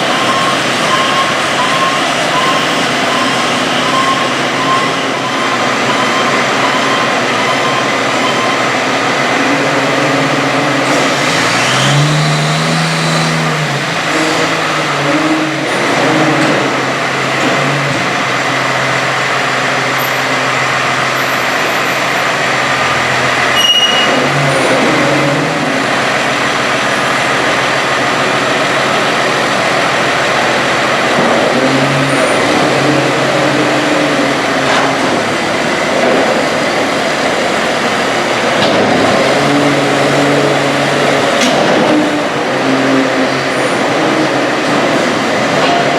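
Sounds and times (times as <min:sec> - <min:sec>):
heavy machinery engine running: 0:00.0 - 0:45.9.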